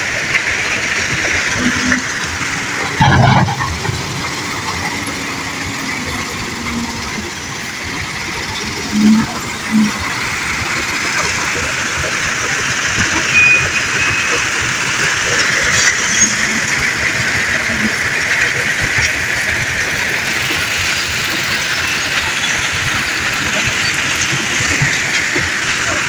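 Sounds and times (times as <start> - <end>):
wheel loader engine under load: 0.0 - 26.0.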